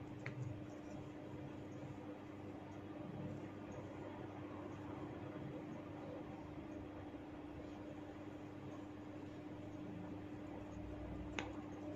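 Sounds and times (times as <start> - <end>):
faint constant hum: 0.0 - 11.9.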